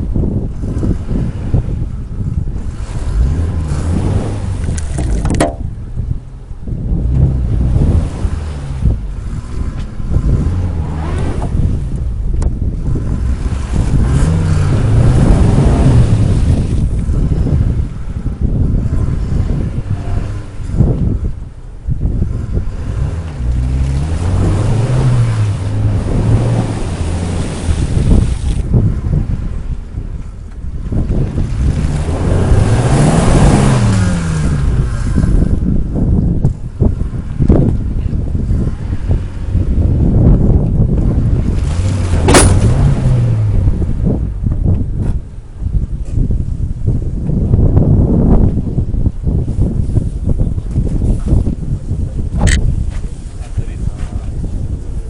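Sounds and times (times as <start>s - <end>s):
low rumble: 0.0s - 55.0s
vehicle engine revving: 0.0s - 55.0s
wind buffeting microphone: 0.0s - 55.0s.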